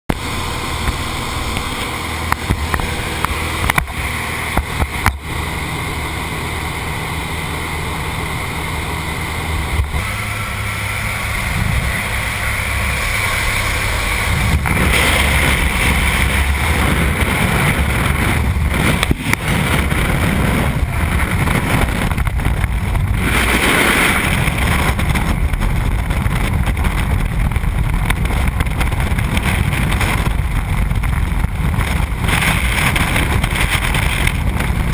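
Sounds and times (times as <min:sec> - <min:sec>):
propeller plane engine: 0:00.1 - 0:34.9
wind rushing on camera: 0:00.1 - 0:34.9.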